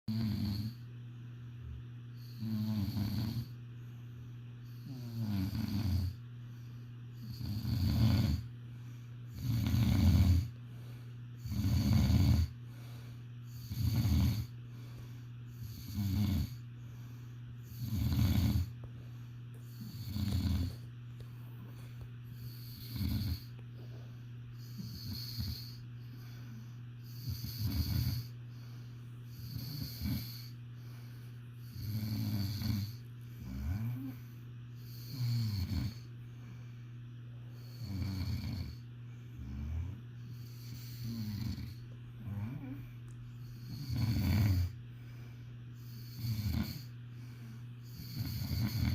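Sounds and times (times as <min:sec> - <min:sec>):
person snoring: 0:00.1 - 0:00.9, 0:02.2 - 0:03.6, 0:04.6 - 0:06.2, 0:07.1 - 0:08.5, 0:09.3 - 0:18.8, 0:19.5 - 0:20.9, 0:21.6 - 0:36.1, 0:37.5 - 0:48.9
steady low hum: 0:00.1 - 0:48.9.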